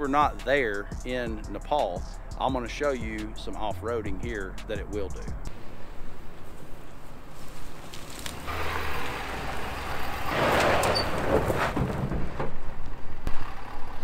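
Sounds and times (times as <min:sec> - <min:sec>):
pickup engine rumble: 0:00.0 - 0:14.0
tyre and ground noise: 0:00.0 - 0:14.0.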